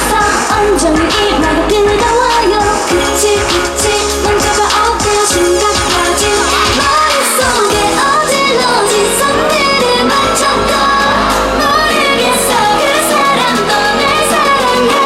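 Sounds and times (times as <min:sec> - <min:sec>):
female group vocals singing: 0:00.0 - 0:15.0
upbeat dance track: 0:00.0 - 0:15.0.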